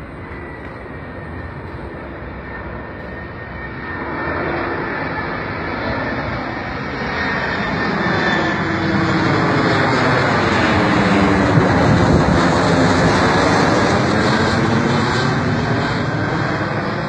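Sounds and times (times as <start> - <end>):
jet airliner flying overhead: 0.0 - 17.0.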